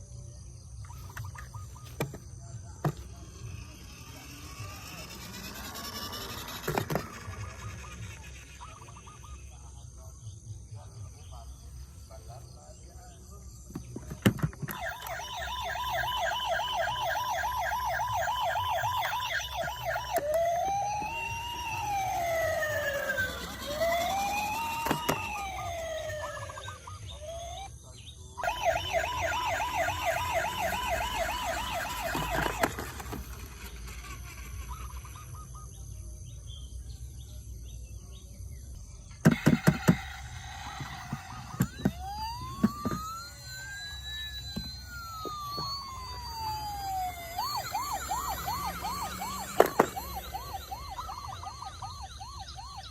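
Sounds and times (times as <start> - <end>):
toy electronic siren: 0.5 - 36.0, 39.2 - 52.9.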